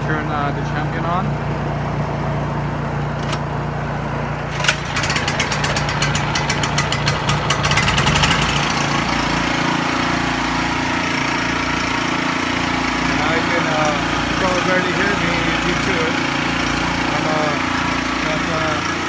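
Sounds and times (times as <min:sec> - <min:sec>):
generator running steadily: 0:00.0 - 0:19.0
generator starting clatter: 0:00.0 - 0:19.0
loud steady generator hum: 0:00.0 - 0:19.0.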